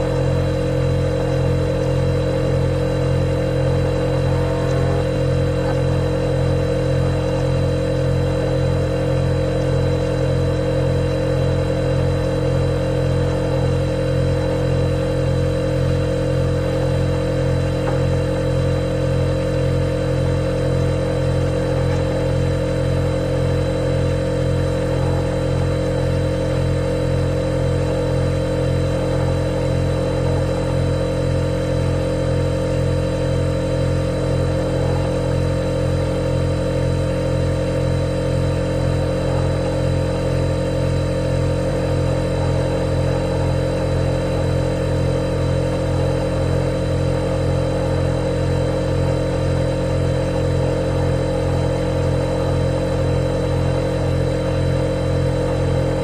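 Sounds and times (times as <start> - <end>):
refrigerator humming: 0.0 - 56.0.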